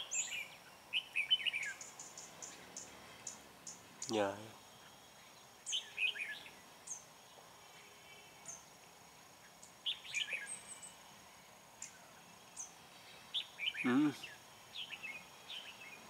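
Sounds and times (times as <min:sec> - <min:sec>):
bulbuls singing: 0:00.0 - 0:16.0.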